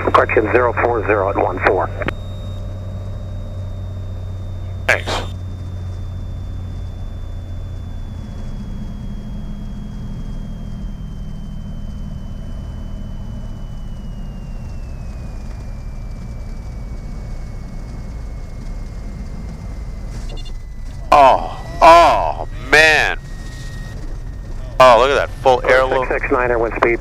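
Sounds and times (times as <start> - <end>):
propeller plane engine drone: 0.0 - 27.0.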